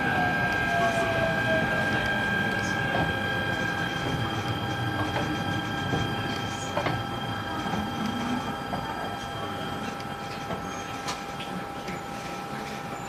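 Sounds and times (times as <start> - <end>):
electric train motor whine: 0.0 - 13.0.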